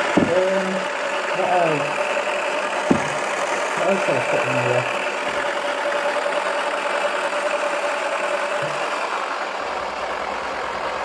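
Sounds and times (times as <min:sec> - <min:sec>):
faint motor whine: 0:00.0 - 0:11.0
toy washing machine running: 0:00.0 - 0:11.0.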